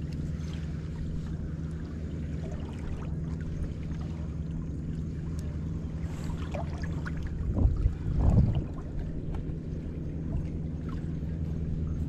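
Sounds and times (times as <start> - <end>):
boat engine low hum: 0.0 - 12.0
water lapping around hull: 0.0 - 12.0.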